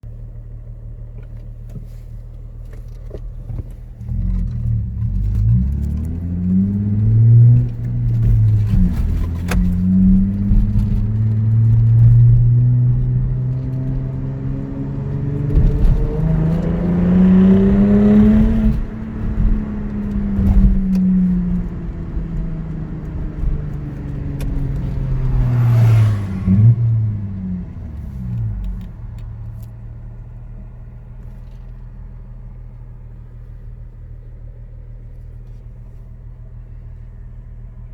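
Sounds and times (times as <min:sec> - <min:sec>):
car exhaust from inside cabin: 0:00.0 - 0:37.9.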